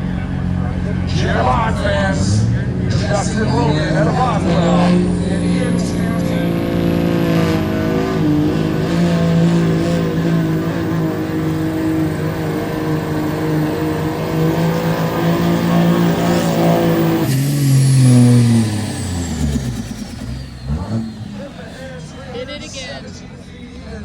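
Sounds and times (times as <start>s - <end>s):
truck engine at full throttle: 0.0s - 24.0s.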